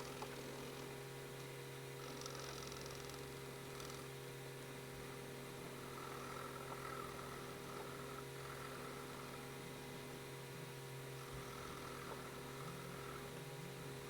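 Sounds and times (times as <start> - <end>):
electrical hum and hiss: 0.0 - 14.0.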